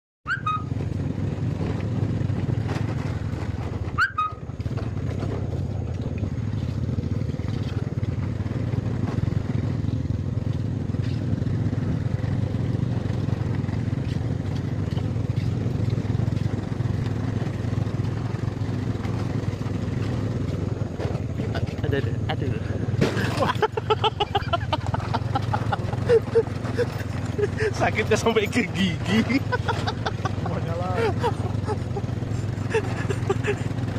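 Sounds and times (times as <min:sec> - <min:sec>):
small motorcycle engine running: 0:00.3 - 0:33.9
wind and road noise: 0:00.3 - 0:33.9.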